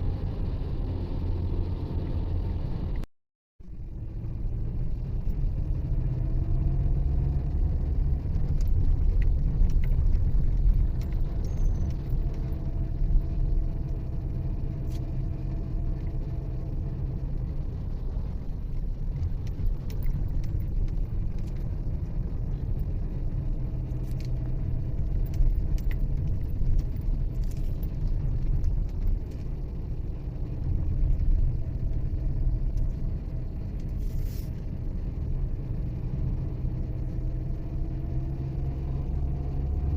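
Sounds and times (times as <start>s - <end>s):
engine and road rumble: 0.0s - 39.9s
faint engine hum: 3.6s - 39.9s.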